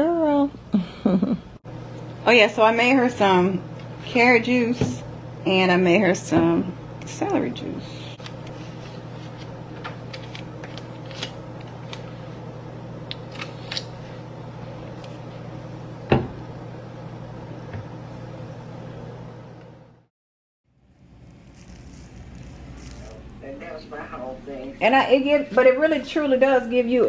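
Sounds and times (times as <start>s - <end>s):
low mechanical hum: 0.0s - 20.1s, 20.7s - 27.0s.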